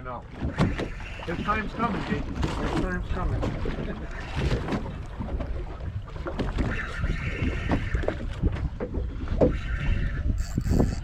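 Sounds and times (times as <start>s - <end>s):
water slapping boat hull: 0.0s - 11.0s
wind buffeting microphone: 0.3s - 11.0s.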